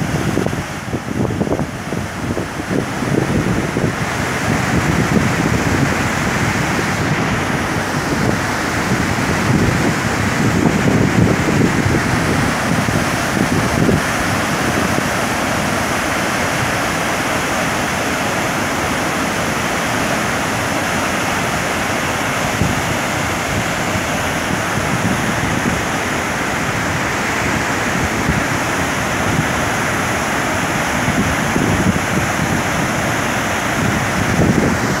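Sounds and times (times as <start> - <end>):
waterfall rushing: 0.0 - 35.0
wind buffeting microphone: 0.0 - 35.0.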